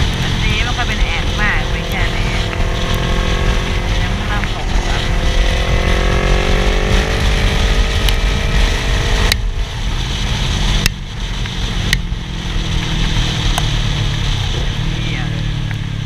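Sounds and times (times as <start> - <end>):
motorcycle engine running: 0.0 - 16.0
wind rushing on microphone: 0.0 - 16.0.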